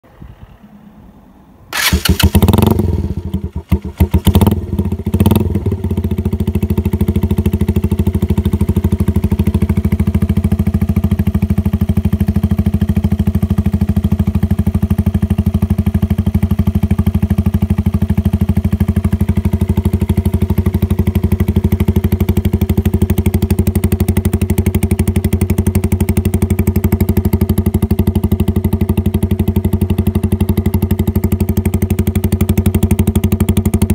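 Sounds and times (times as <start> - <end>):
motorcycle revving and idling: 1.7 - 33.9.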